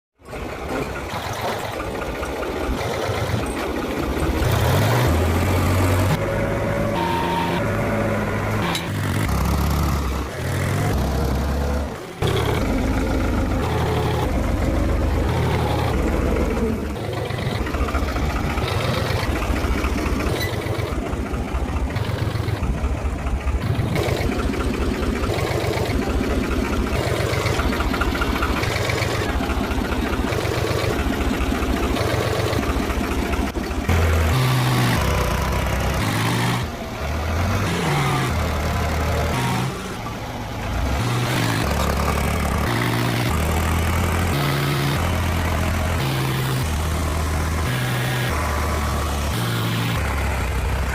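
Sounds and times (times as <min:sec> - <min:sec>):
tractor diesel engine revving: 0:00.2 - 0:50.9.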